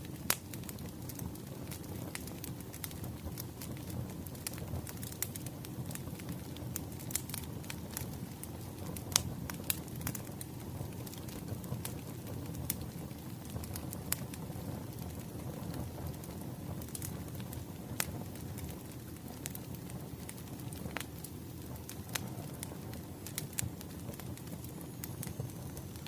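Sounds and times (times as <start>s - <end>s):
low rumble of burning logs: 0.0s - 26.0s
wood fire crackling: 0.0s - 26.0s.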